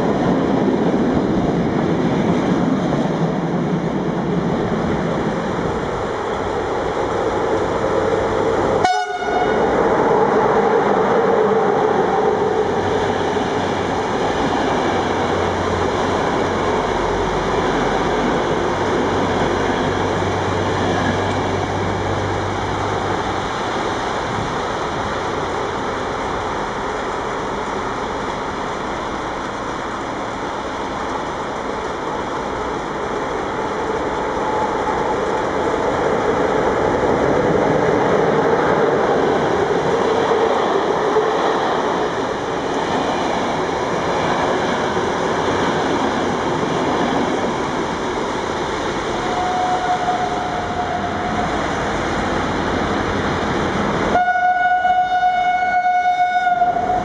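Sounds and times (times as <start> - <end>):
passenger train coaches rolling: 0.0 - 57.0.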